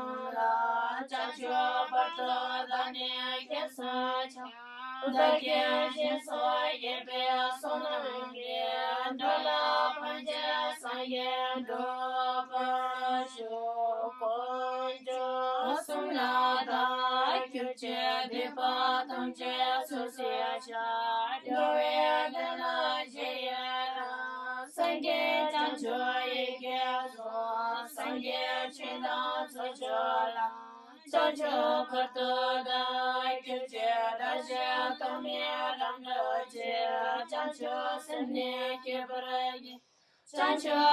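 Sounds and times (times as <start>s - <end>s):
woman singing chant-like melody: 0.0s - 40.9s.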